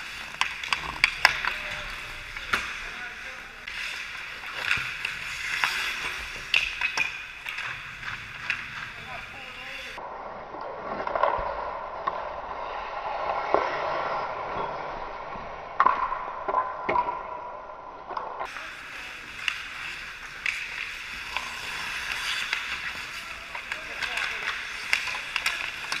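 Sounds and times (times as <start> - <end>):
skate blades scraping ice: 0.0 - 10.0, 10.7 - 15.6, 18.4 - 26.0
hockey sticks and puck clacking: 0.0 - 26.0.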